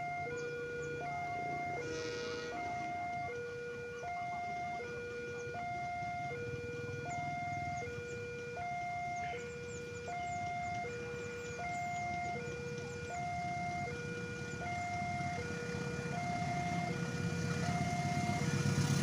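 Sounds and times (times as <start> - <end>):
background traffic rumble: 0.0 - 19.0
level crossing two-tone alarm: 0.0 - 19.0.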